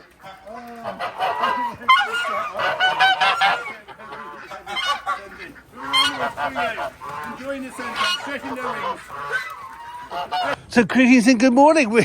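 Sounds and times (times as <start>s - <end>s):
geese honking: 0.0s - 10.6s.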